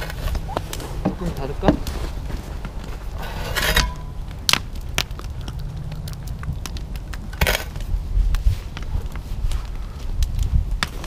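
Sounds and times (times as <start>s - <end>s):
wind rumble on microphone: 0.0s - 11.0s
wood fire crackling: 0.0s - 11.0s.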